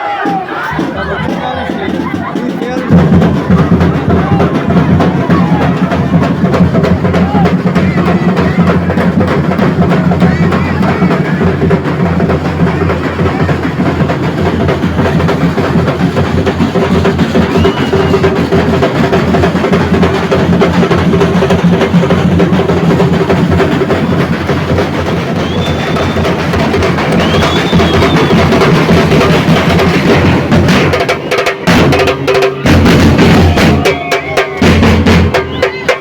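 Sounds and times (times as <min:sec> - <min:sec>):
heavy bass drum: 0:00.0 - 0:36.0
percussion group drumming: 0:00.0 - 0:36.0.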